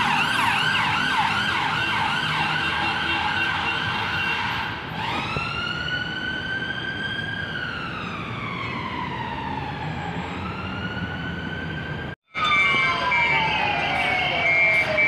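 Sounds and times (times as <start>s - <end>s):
ambulance siren wailing: 0.0s - 15.0s
lower siren tone: 0.0s - 15.0s
street traffic: 0.0s - 15.0s.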